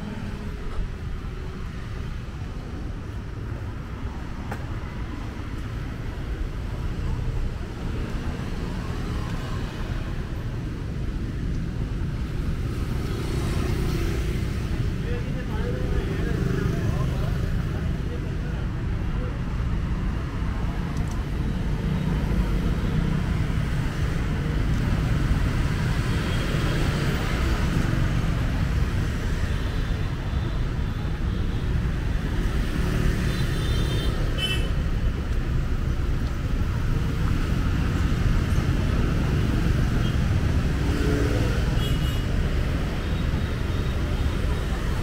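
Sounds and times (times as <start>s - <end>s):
cars and motorbikes passing: 0.0s - 45.0s.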